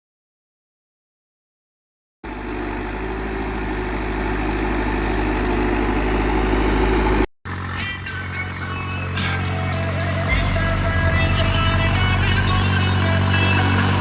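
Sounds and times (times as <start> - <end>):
vehicle engine running: 2.2 - 14.0.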